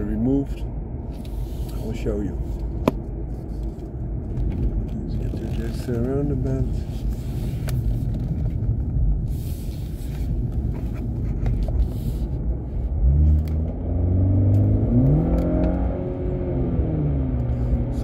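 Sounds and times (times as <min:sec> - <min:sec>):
car engine drone from inside: 0:00.0 - 0:18.0.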